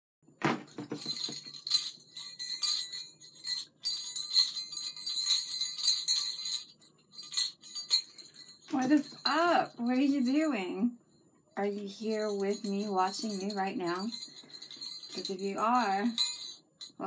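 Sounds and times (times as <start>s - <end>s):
small jingle bells jingling: 0.5s - 17.0s.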